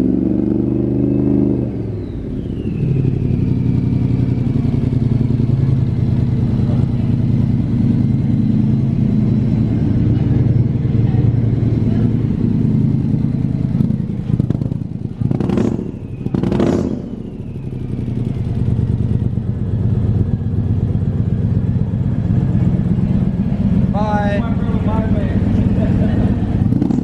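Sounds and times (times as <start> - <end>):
car engines idling: 0.0 - 27.0
vehicles passing whoosh: 0.0 - 27.0.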